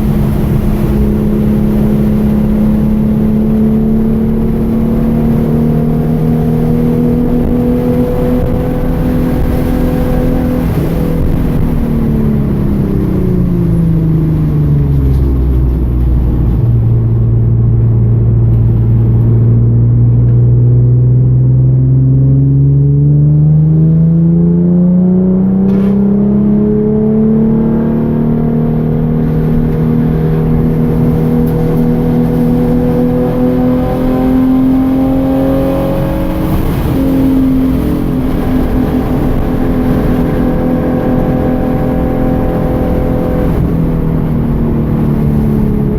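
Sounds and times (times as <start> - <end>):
car engine revving under load: 0.0 - 45.9.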